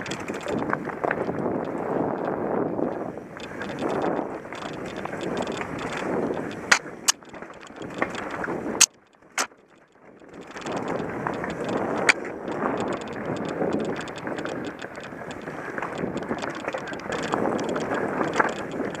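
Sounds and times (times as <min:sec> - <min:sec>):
bike clacking over roots: 0:00.0 - 0:19.0
bike tyre and wind rumble: 0:00.0 - 0:19.0.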